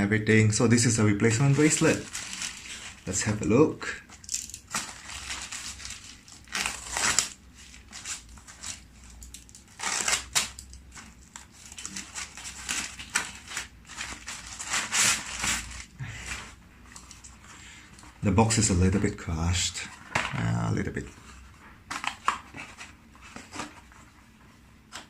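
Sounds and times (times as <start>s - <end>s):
packaging crinkling and rustling: 0.8s - 18.7s, 19.8s - 24.0s.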